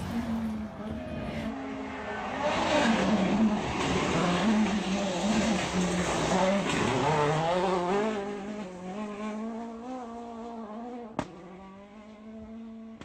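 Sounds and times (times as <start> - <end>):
rally car engine running: 0.0 - 13.0.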